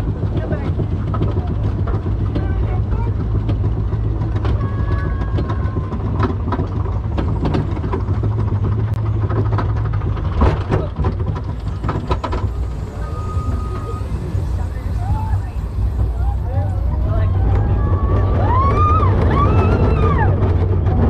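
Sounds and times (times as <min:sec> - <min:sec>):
roller coaster low rumble: 0:00.0 - 0:21.0.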